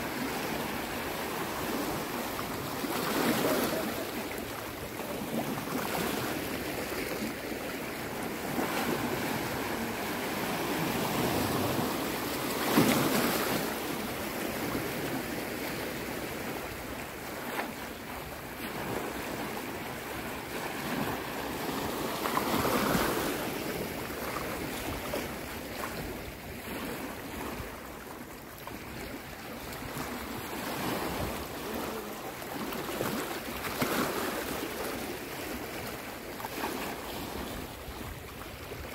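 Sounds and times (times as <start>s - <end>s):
small waves breaking: 0.0s - 38.9s.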